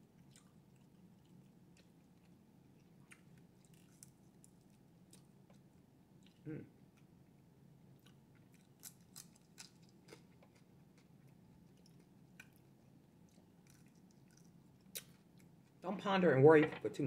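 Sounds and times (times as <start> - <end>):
chewing with crunches: 0.0 - 15.8.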